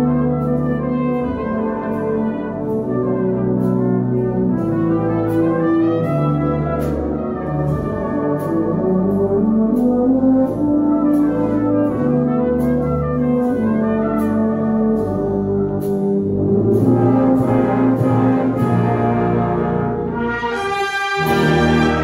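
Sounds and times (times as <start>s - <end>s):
brass band playing slow ballad: 0.0s - 22.0s.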